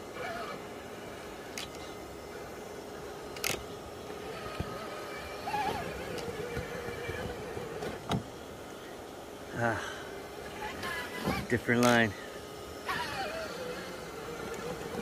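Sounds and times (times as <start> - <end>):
electric motor whining faintly: 0.0 - 15.0.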